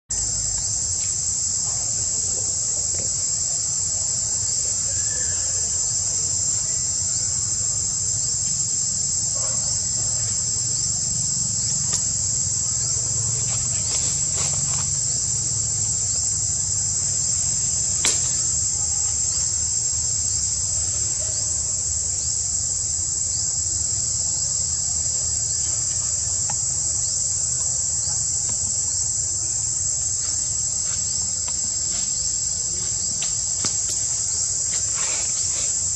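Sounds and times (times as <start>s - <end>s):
high-pitched insect chorus: 0.1s - 35.9s.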